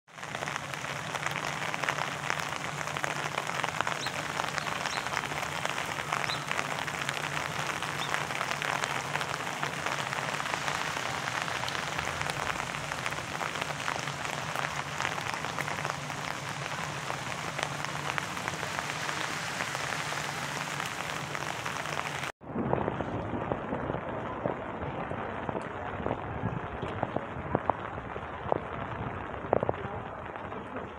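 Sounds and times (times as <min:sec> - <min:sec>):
steady rain falling: 0:00.1 - 0:30.9.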